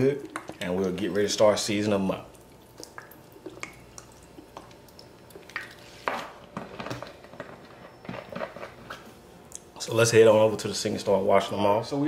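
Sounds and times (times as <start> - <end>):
juice dripping and splashing: 0.0 - 9.9.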